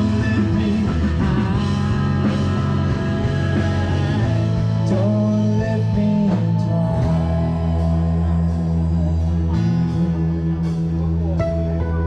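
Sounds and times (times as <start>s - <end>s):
guitar: 0.0s - 12.0s
person singing: 0.0s - 12.0s
sustained low notes: 0.0s - 12.0s.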